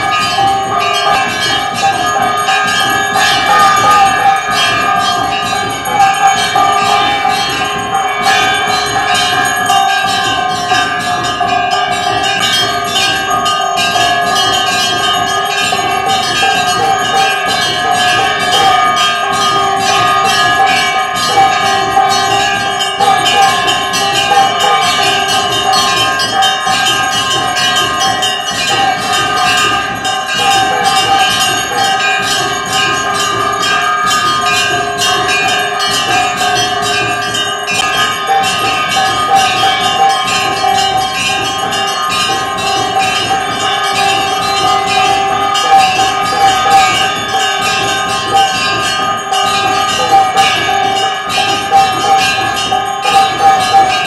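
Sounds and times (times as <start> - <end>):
bells ringing rapidly: 0.0 - 54.0.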